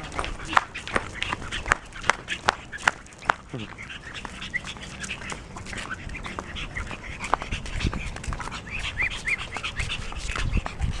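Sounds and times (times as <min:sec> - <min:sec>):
small dogs yipping and whimpering: 0:00.0 - 0:11.0.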